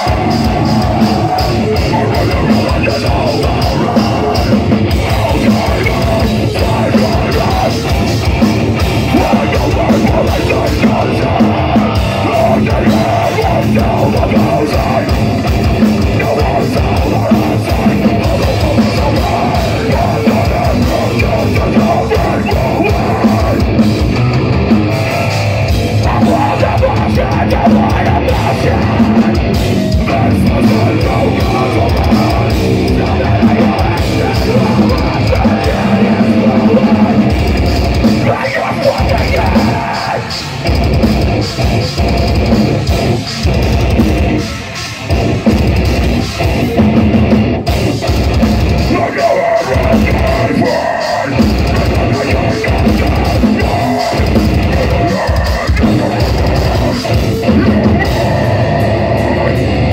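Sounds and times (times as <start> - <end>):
vocalist screaming: 0.0 - 41.5, 48.6 - 59.9
bass: 0.0 - 59.9
distorted electric guitars: 0.0 - 59.9
drums: 0.0 - 59.9.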